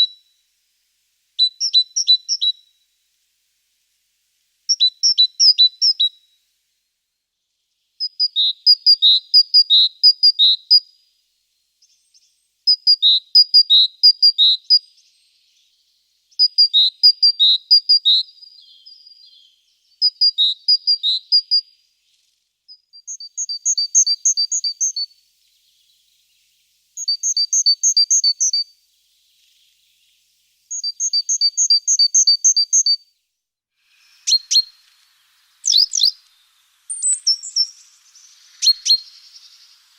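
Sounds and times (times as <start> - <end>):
songbird singing: 0.0 - 0.8, 1.4 - 39.9.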